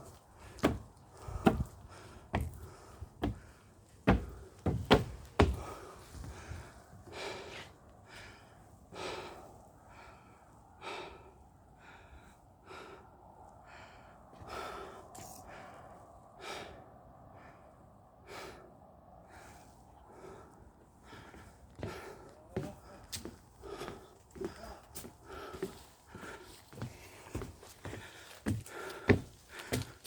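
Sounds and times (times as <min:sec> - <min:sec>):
person breathing hard: 0:00.0 - 0:30.0.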